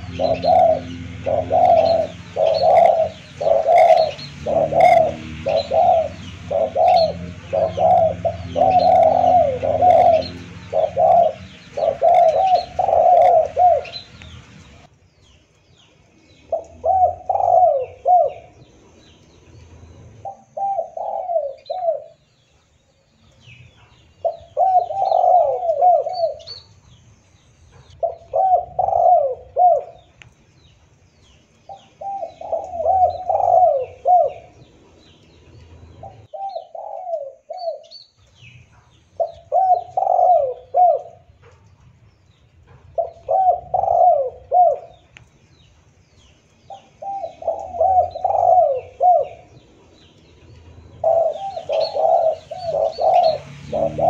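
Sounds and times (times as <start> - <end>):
doves cooing: 0.0 - 14.9, 16.5 - 22.2, 23.4 - 26.7, 27.7 - 30.2, 31.6 - 41.6, 42.6 - 45.2, 46.3 - 54.0.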